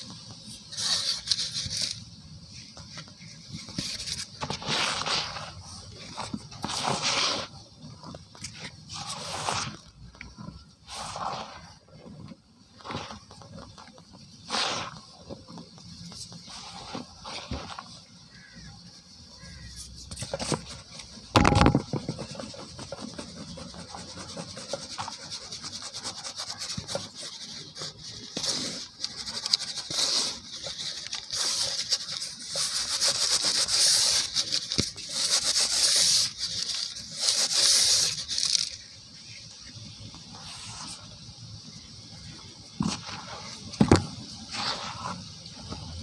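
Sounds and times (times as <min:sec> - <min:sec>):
cement powder rubbed in plastic bowl: 0:00.0 - 0:46.0
powder pouring hiss: 0:00.0 - 0:46.0.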